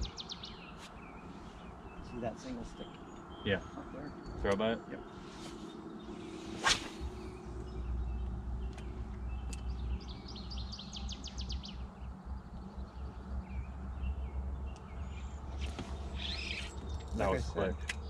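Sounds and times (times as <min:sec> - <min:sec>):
bird chirps: 0:00.0 - 0:18.0
bird singing a trill: 0:00.0 - 0:18.0.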